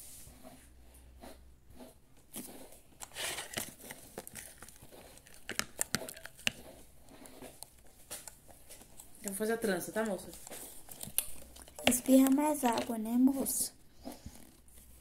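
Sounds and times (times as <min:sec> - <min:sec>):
rustling and crinkling handling: 0:01.8 - 0:15.0.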